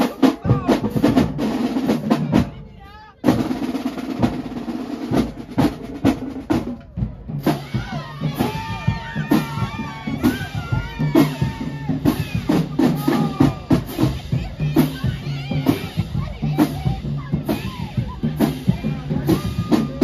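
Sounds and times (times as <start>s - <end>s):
drumline beat: 0.0s - 20.0s.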